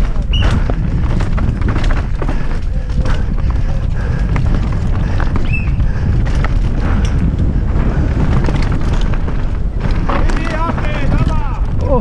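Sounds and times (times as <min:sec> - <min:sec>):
bike rattling and knocking: 0:00.0 - 0:12.0
tyres rumbling on dirt: 0:00.0 - 0:12.0
wind noise on microphone: 0:00.0 - 0:12.0.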